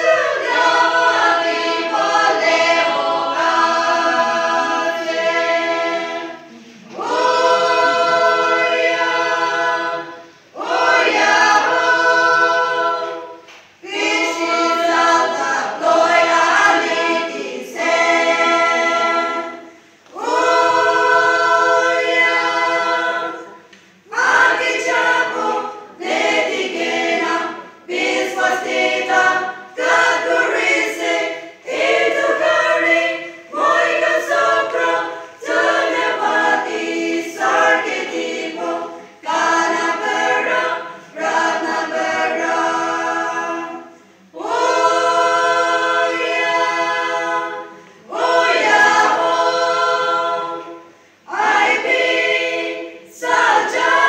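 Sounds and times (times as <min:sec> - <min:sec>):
women's choir singing a cappella: 0:00.0 - 0:54.0.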